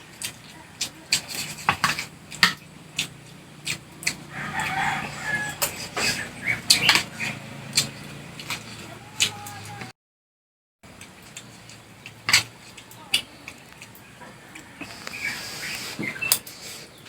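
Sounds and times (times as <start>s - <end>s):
chewing smacks: 0.0s - 9.4s, 10.9s - 16.5s
chicken clucking: 0.0s - 9.9s, 12.0s - 16.4s.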